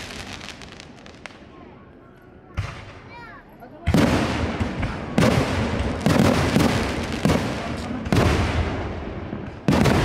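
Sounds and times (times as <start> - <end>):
fireworks bangs: 0.0 - 1.8, 2.5 - 10.0
fireworks crackling: 0.0 - 10.0.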